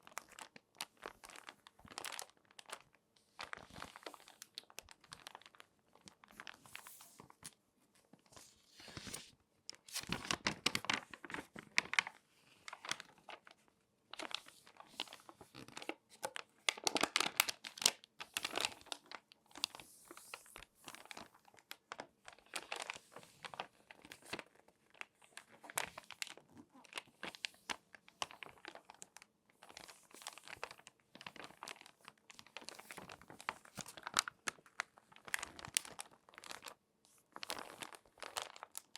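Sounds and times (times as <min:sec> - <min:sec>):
magazine pages crackling: 0:00.1 - 0:07.6, 0:08.3 - 0:38.9.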